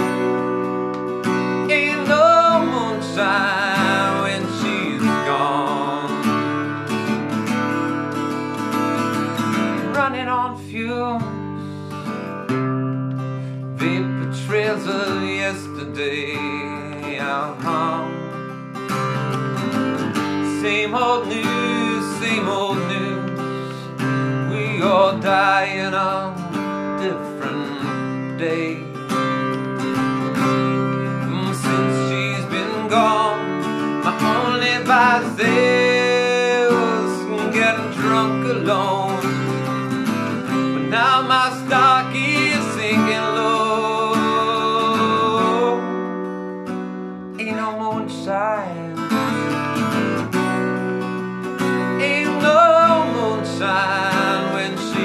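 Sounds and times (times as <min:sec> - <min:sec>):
acoustic guitar: 0:00.0 - 0:55.0
man singing: 0:01.4 - 0:07.1, 0:09.2 - 0:12.3, 0:13.6 - 0:46.1, 0:47.3 - 0:50.2, 0:51.6 - 0:55.0.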